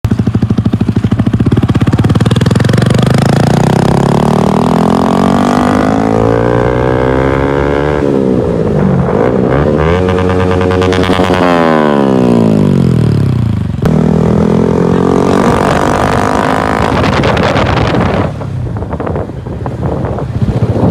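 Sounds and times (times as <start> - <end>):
vehicle engine accelerating: 0.1 - 20.9.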